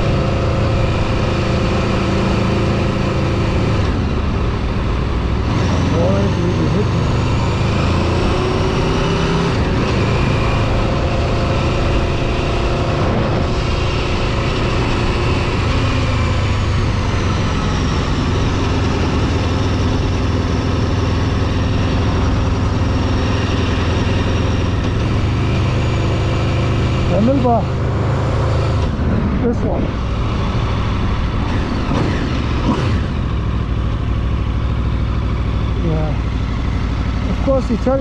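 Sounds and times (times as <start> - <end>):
vehicle engine and tyre rumble: 0.0 - 38.0.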